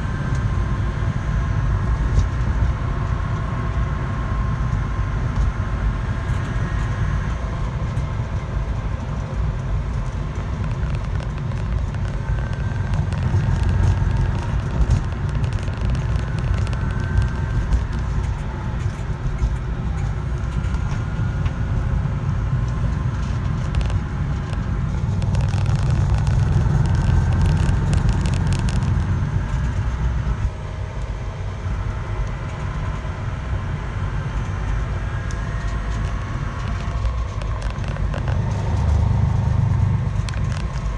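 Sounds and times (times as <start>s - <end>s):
vehicle engine rumble: 0.0s - 40.9s.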